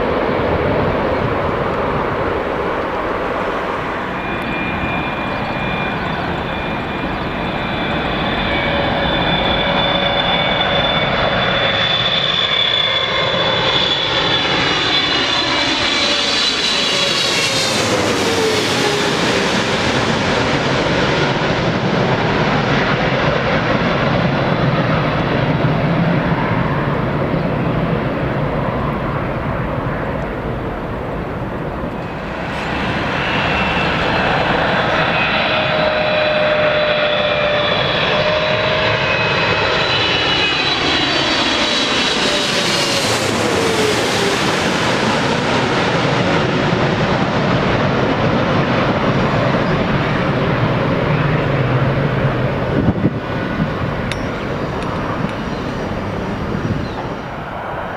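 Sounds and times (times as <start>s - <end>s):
jet airliner passing: 0.0s - 57.9s.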